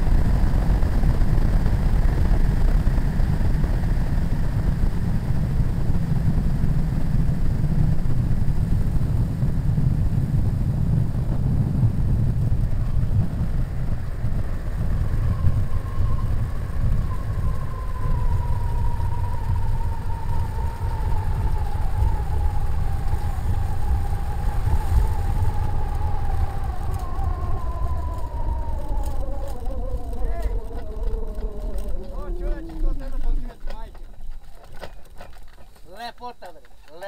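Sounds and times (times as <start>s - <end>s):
microlight engine and propeller: 0.0s - 37.0s.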